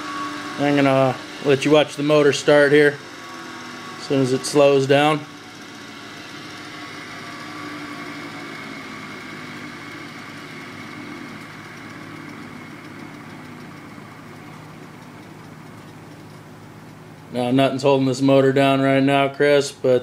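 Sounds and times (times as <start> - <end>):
electric motor coasting down: 0.0 - 19.0.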